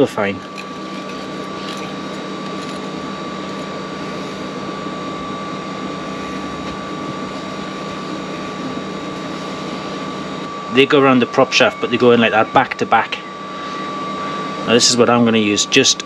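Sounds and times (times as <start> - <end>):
high whine: 0.0 - 16.0
machine drone: 0.0 - 16.0.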